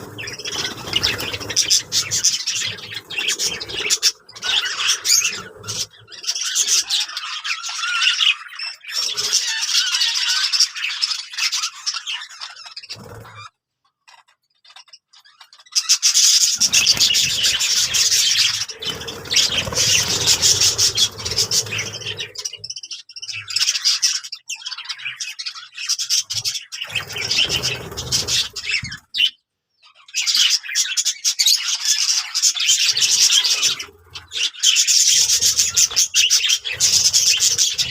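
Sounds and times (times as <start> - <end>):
bird squawks: 0.0 - 37.9
budgerigars chattering and warbling: 0.0 - 37.9.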